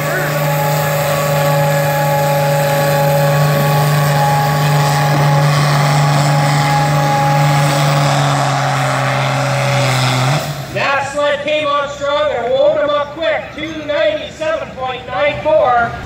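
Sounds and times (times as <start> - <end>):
tractor engine running under load: 0.0 - 14.1.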